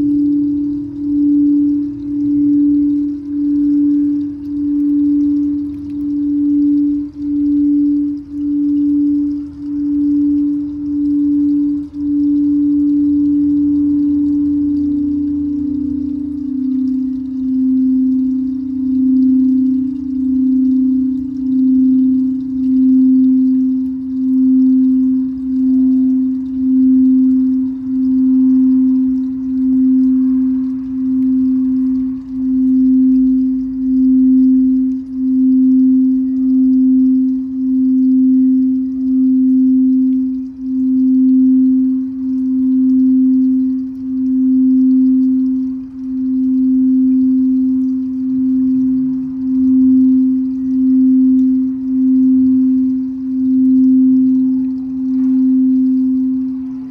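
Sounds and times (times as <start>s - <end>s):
singing bowl steady low tone: 0.0s - 56.9s.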